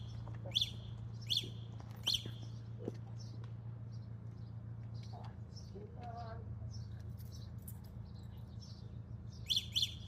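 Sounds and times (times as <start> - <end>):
bird chirping: 0.0 - 5.8, 6.7 - 10.0.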